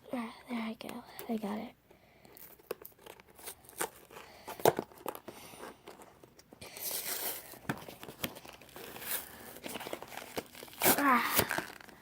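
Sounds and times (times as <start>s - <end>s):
packaging crinkling and tearing: 2.4s - 12.0s.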